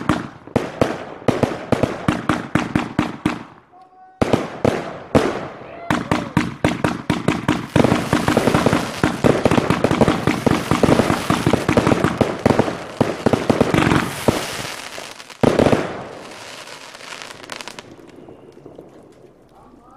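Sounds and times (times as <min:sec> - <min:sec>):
fireworks bangs and crackling: 0:00.0 - 0:19.9.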